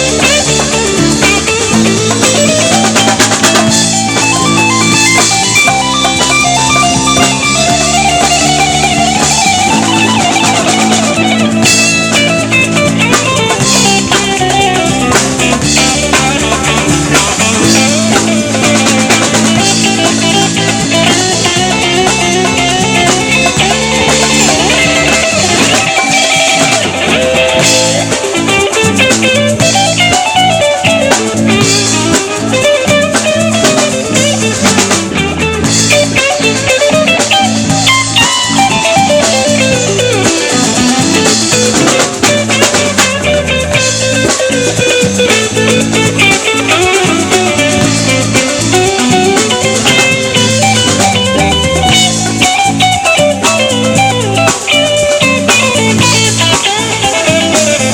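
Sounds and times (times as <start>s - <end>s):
bass and drum groove: 0.0s - 57.9s
guitar lines: 0.0s - 57.9s.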